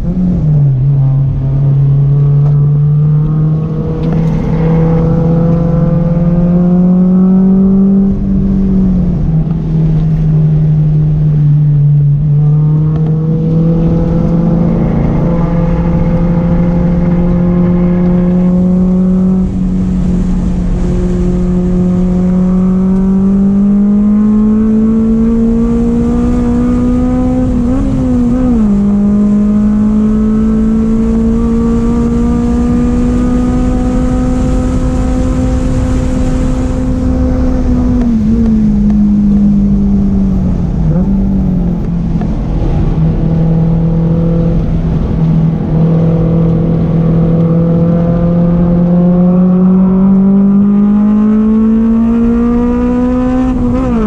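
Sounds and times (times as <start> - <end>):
car engine running hard: 0.0 - 54.0.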